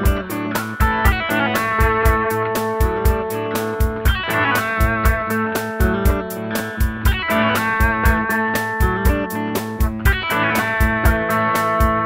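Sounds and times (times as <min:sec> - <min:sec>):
drum machine beat: 0:00.0 - 0:12.0
electric guitars playing rock: 0:00.0 - 0:12.0.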